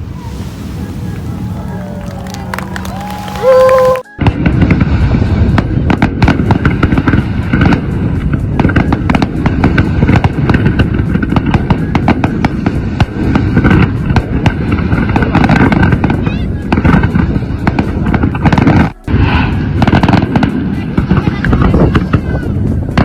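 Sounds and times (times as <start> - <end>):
fireworks crackling and popping: 0.0 - 23.0
low rumble of firework bursts: 0.0 - 23.0.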